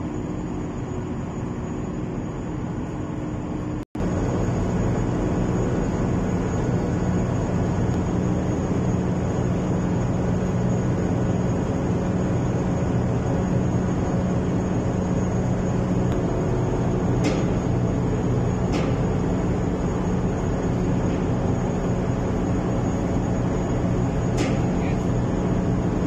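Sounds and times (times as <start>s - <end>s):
boat engines droning: 3.1s - 26.0s.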